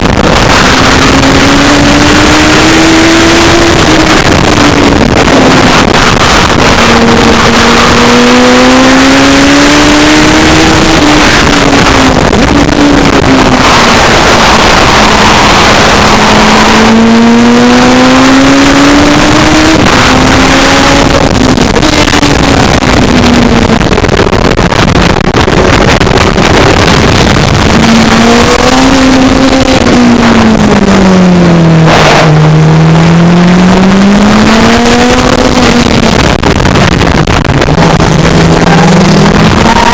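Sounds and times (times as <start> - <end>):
racing engine revving: 0.0 - 39.9
wind and road noise: 0.0 - 39.9.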